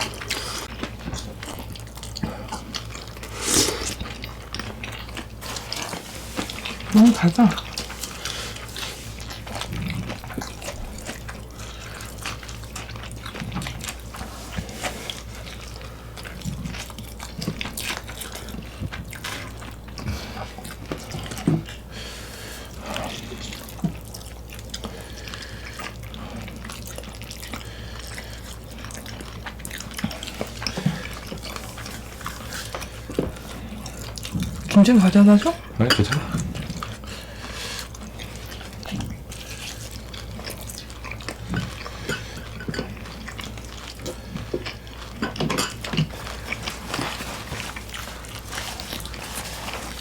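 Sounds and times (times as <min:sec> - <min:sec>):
wet chewing and mouth smacks: 0:00.0 - 0:21.9, 0:22.6 - 0:35.0, 0:35.6 - 0:50.0.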